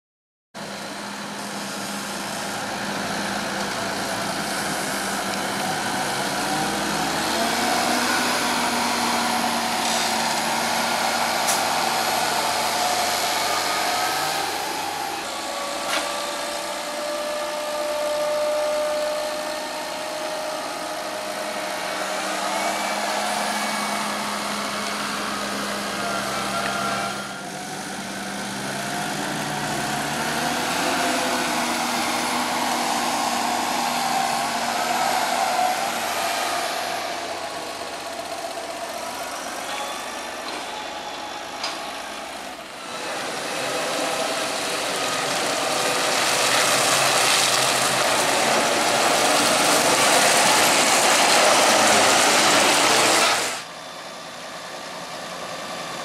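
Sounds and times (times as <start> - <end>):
tractor engine working under load: 0.6 - 56.0.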